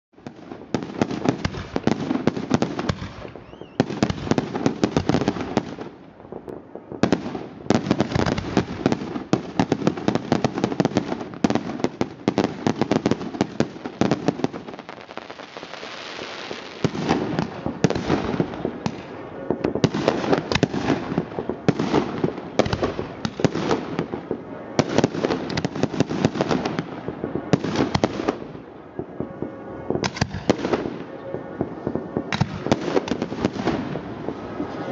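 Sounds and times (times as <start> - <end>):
fireworks crackling and banging: 0.2 - 34.9.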